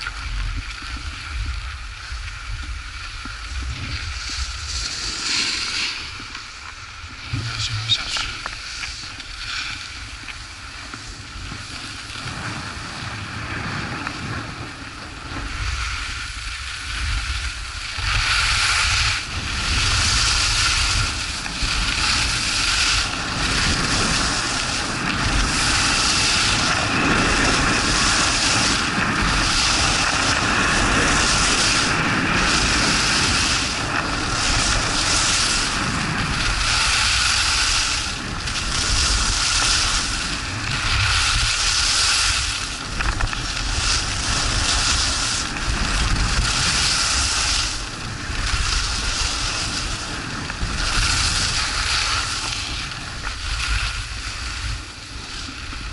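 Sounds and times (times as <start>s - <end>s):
skis carving snow: 0.0s - 55.9s
wind buffeting microphone: 0.0s - 55.9s.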